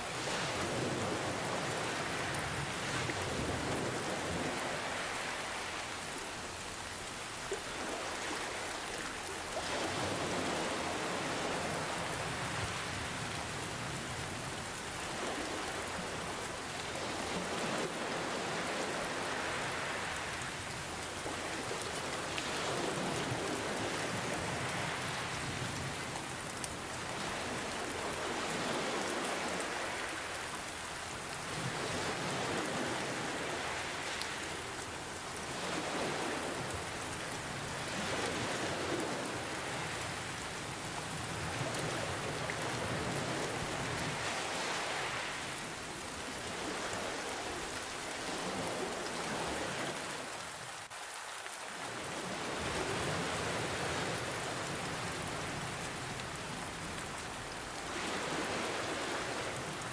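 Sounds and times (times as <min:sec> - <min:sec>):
ocean waves washing in: 0:00.0 - 0:50.9, 0:51.7 - 0:59.9
steady rain falling: 0:00.0 - 0:59.9.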